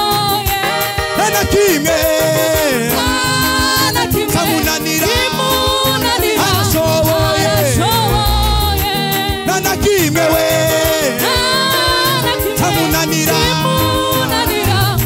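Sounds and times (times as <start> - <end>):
drum beat and bass: 0.0 - 15.0
person singing gospel: 0.0 - 15.0.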